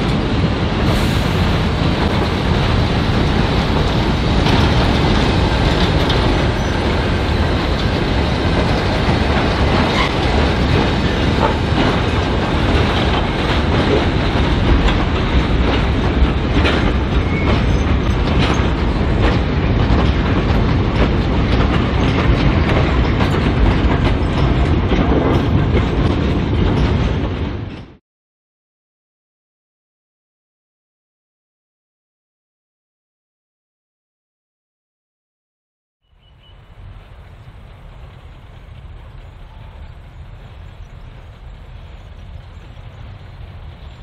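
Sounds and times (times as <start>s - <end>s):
train rumble: 0.0s - 28.0s, 36.1s - 44.0s
wheels clacking over rail joints: 0.0s - 28.0s, 36.2s - 44.0s.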